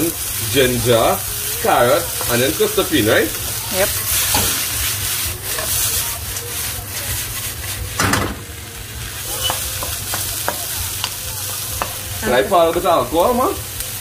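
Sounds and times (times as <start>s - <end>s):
vegetables sizzling in a wok: 0.0s - 14.0s.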